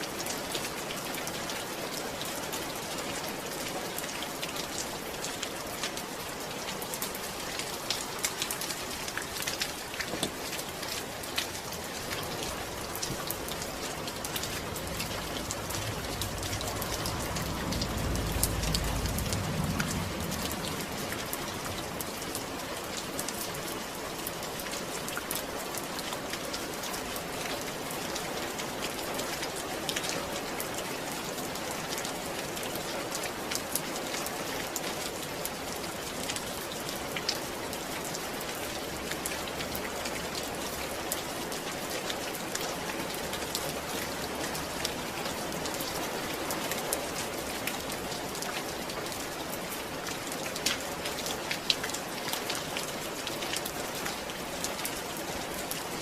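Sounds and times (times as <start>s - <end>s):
raindrops ticking on surface: 0.0s - 56.0s
steady rain: 0.0s - 56.0s.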